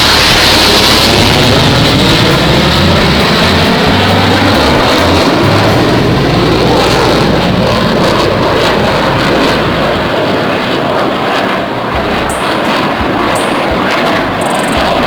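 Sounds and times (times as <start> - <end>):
military aircraft engine noise: 0.0 - 15.0.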